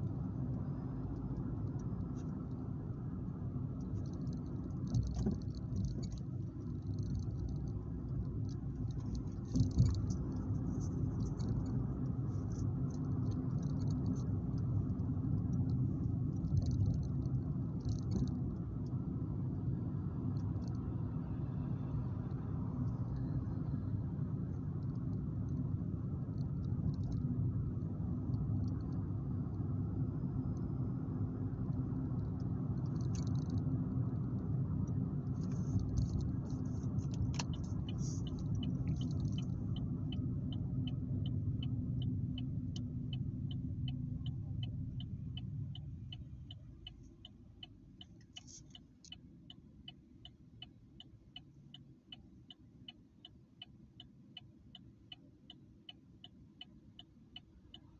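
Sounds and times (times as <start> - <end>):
car road and engine rumble: 0.0 - 57.9
turn signal ticking: 0.0 - 57.9.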